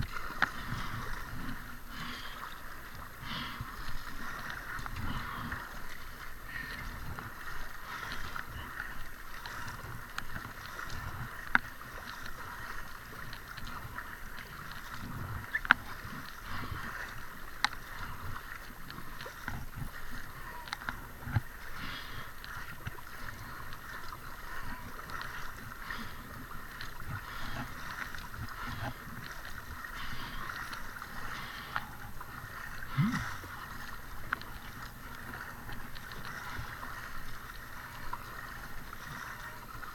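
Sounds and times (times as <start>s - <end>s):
paddle strokes in water: 0.0s - 39.9s
water gurgling and splashing: 0.0s - 39.9s.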